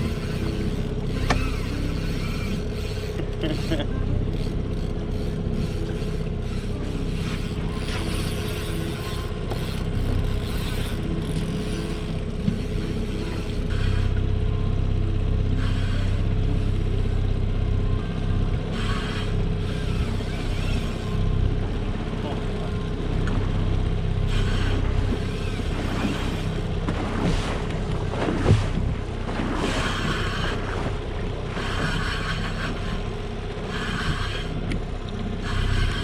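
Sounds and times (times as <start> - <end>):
outboard motor running: 0.0 - 36.0
water noise: 0.0 - 36.0
wind: 0.0 - 36.0.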